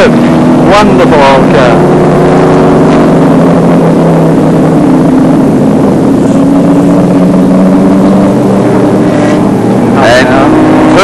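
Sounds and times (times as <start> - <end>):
racing car engine at speed: 0.0 - 11.0.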